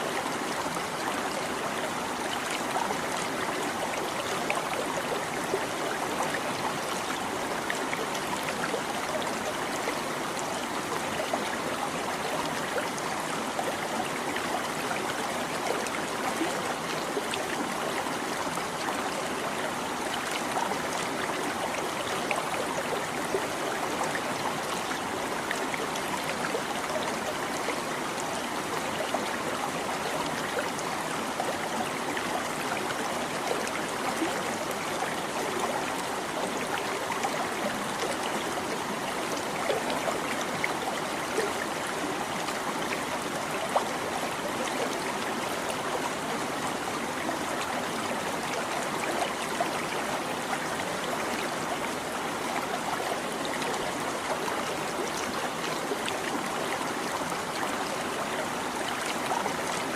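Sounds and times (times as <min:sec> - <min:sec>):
stream babbling over stones: 0:00.0 - 0:59.9.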